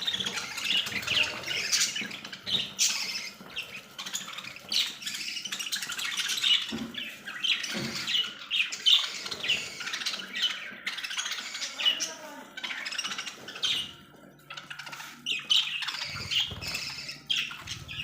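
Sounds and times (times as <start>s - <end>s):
parrots squawking and chirping: 0.0s - 18.0s.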